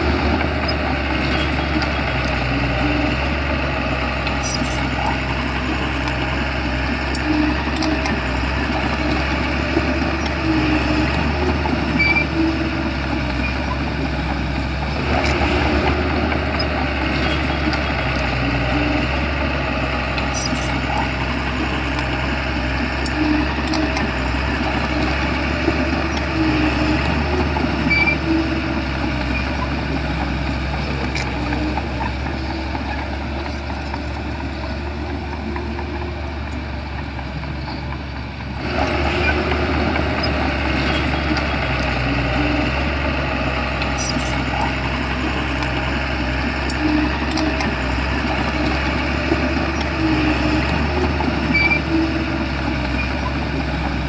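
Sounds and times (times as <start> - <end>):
bulldozer diesel engine running: 0.0 - 54.0
machine squeaks and clicks: 0.1 - 3.4, 4.2 - 19.5, 20.1 - 36.7, 37.6 - 54.0.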